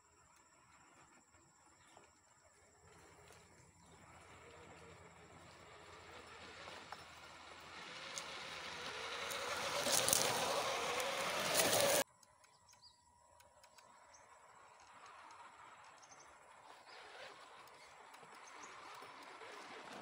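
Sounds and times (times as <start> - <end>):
tyres on sandy dirt: 0.0 - 20.0
electric motor and gear whine: 0.1 - 20.0.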